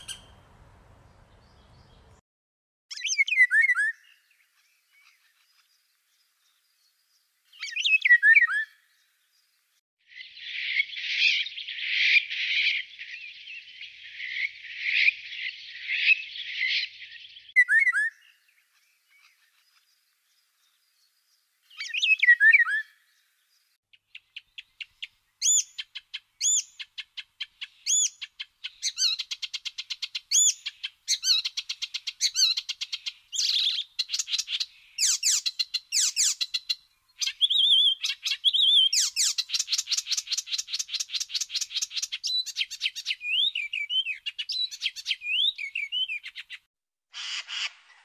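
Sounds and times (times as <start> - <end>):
songbirds chirping and trilling: 0.0 - 2.2, 2.9 - 48.0.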